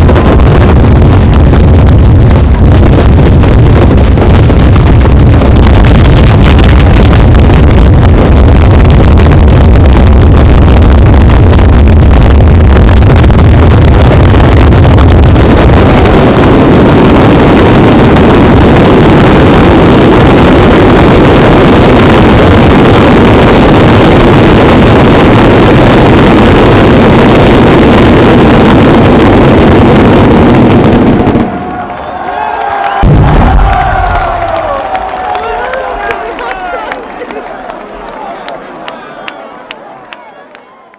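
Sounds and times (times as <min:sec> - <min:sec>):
firecrackers exploding in a barrage: 0:00.0 - 0:36.9.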